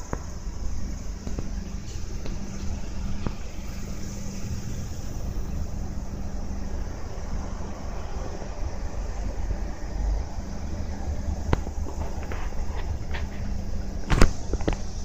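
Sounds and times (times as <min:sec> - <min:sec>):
low engine hum: 0:00.0 - 0:15.0
road traffic rumble: 0:00.0 - 0:15.0.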